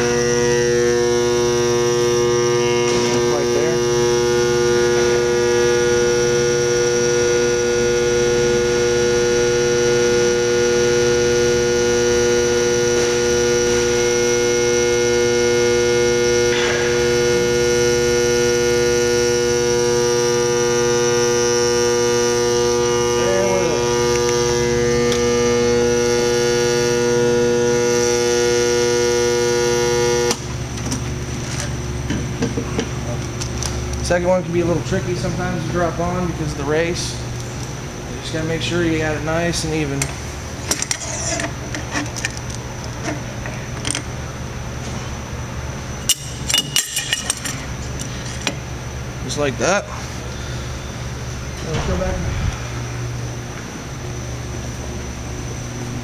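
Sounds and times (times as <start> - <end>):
induction heater humming: 0.0 - 56.0.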